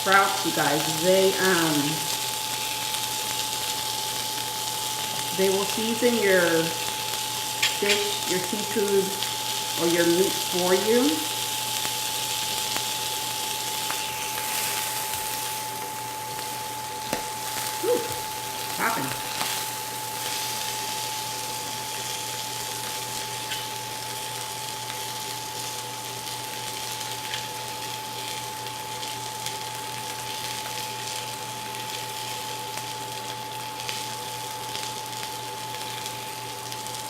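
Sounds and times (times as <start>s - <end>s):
fish sizzling in a frying pan: 0.0s - 37.0s.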